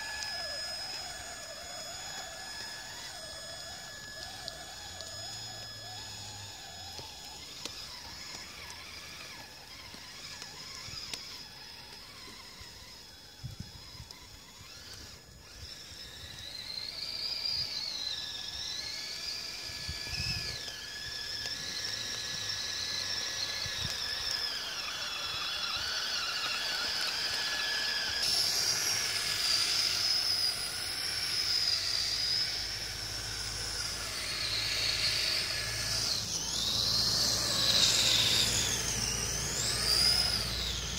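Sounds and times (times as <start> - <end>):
electric motors whining: 0.0 - 40.9.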